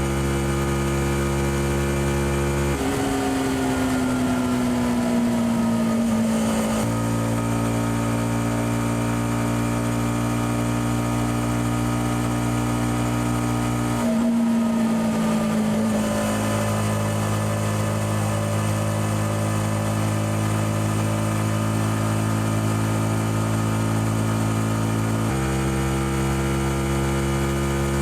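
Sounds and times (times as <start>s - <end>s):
motorcycle engine: 0.0s - 28.0s.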